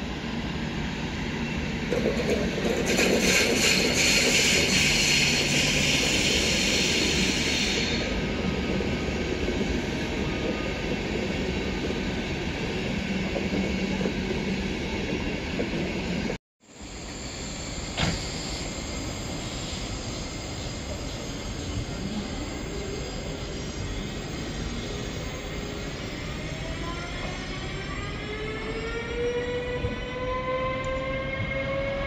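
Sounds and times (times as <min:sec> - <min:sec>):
train running on rails: 0:00.0 - 0:32.0.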